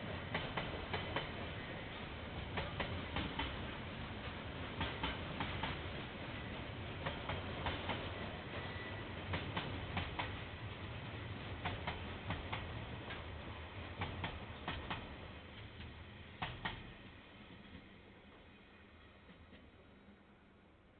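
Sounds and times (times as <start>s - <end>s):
train wagons rumbling past: 0.0s - 20.3s.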